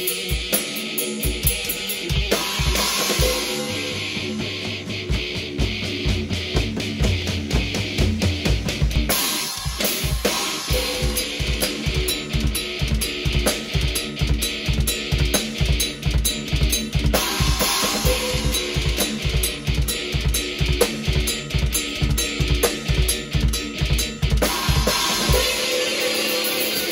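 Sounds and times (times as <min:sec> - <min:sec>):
cymbal wash: 0:00.0 - 0:05.7, 0:09.1 - 0:26.9
fast bass drum beat: 0:00.0 - 0:26.9.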